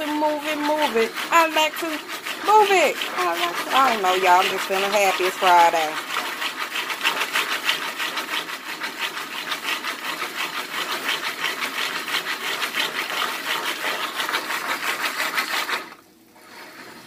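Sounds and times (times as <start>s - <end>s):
pan scraping on stovetop: 0.0s - 17.0s.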